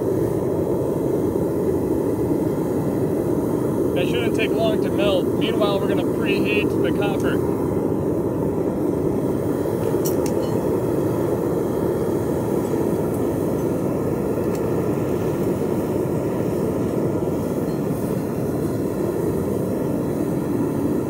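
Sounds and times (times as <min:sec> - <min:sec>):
propane burner flame rushing: 0:00.0 - 0:21.0.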